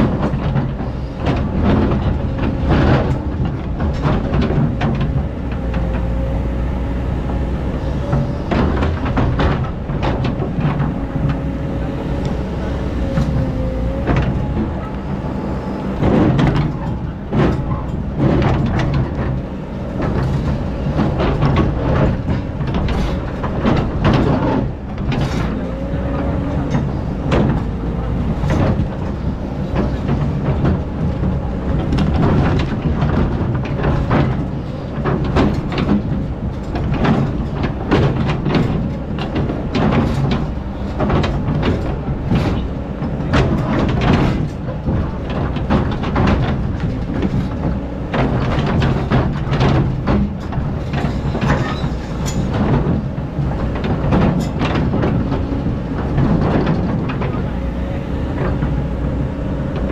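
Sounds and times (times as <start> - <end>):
excavator diesel engine: 0.0 - 59.9
high engine whine: 0.0 - 59.9.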